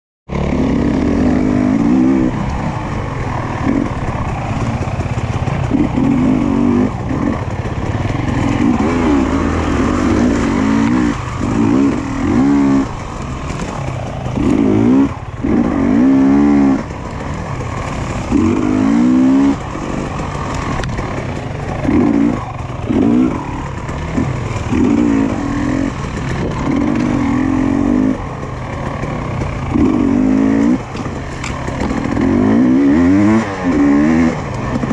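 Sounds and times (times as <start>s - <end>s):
motorcycle engine revving: 0.3s - 34.9s.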